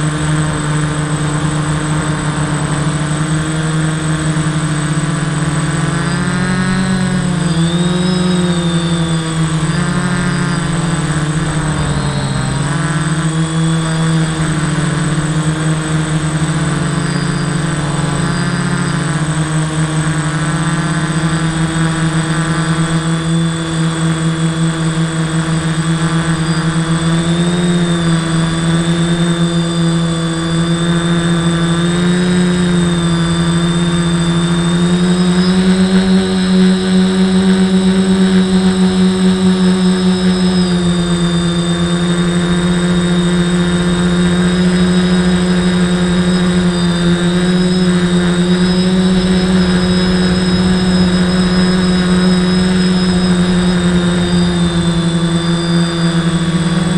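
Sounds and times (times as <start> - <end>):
quadcopter motors buzzing: 0.0 - 56.9.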